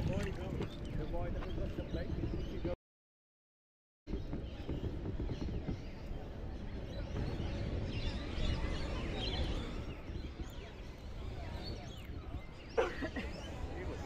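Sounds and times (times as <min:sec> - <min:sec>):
birds chirping: 0:00.0 - 0:02.8, 0:04.1 - 0:14.0
wind rumble on microphone: 0:00.0 - 0:02.8, 0:04.1 - 0:14.0.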